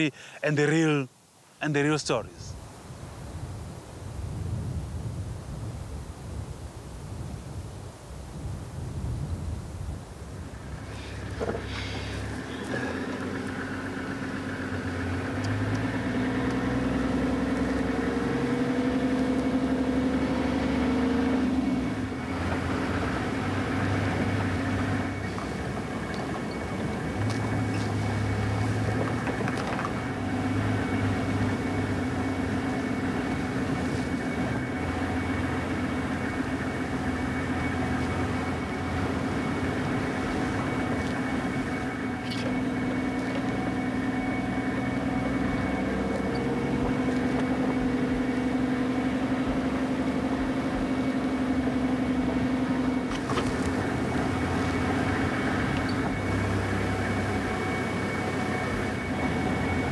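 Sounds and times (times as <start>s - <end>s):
vehicle engine running: 10.2s - 59.9s.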